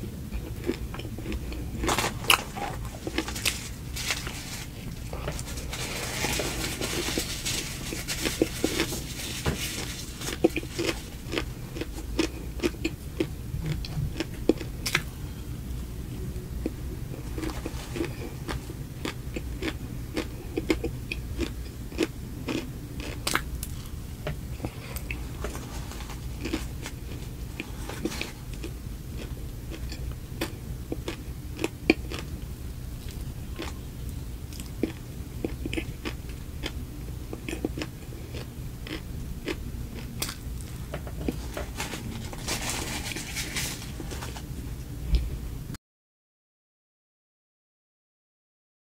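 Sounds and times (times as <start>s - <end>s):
biting and chewing cupcake: 0.3s - 15.2s, 16.6s - 44.4s.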